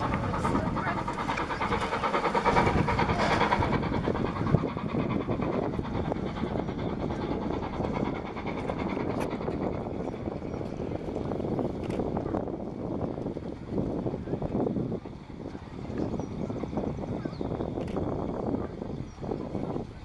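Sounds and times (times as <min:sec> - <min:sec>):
steam locomotive exhaust beating: 0:00.0 - 0:20.0.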